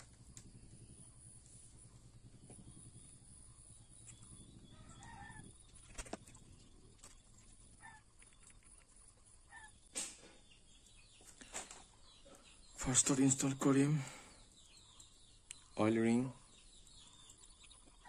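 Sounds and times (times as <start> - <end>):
faint bird calls: 0.0 - 18.0.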